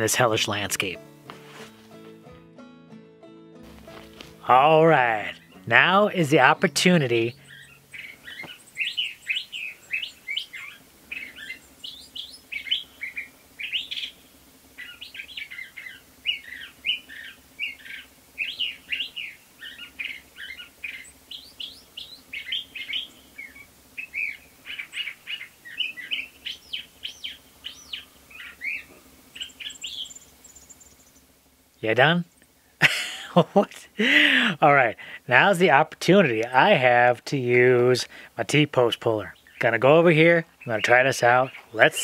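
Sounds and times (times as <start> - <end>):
songbird singing: 0.0 - 1.1, 3.8 - 42.0.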